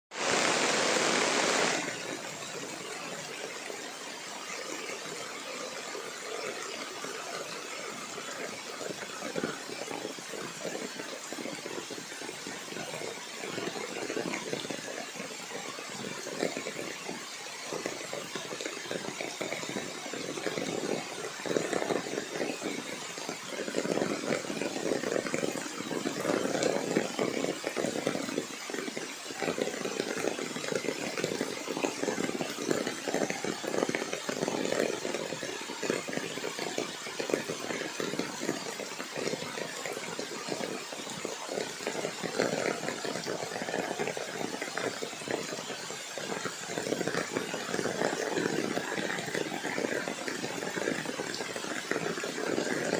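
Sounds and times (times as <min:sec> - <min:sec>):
steady rain falling: 0:00.1 - 0:52.9.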